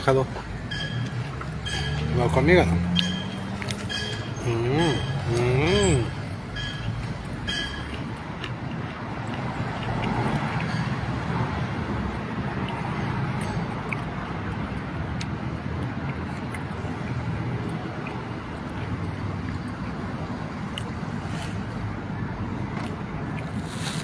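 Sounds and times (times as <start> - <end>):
cars passing by: 0.0 - 24.0.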